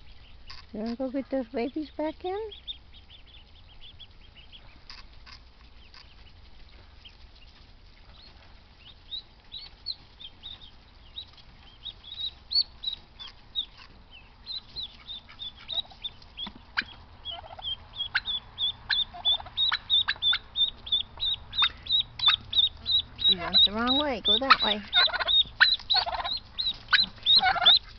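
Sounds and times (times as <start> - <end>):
ducklings peeping: 0.0 - 27.9.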